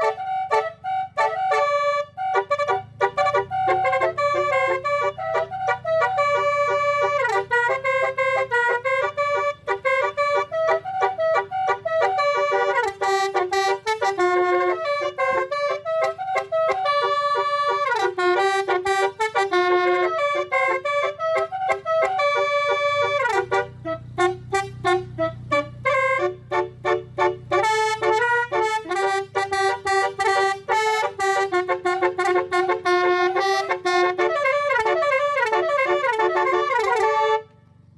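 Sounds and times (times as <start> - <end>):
musical air horn playing a tune: 0.0 - 37.9.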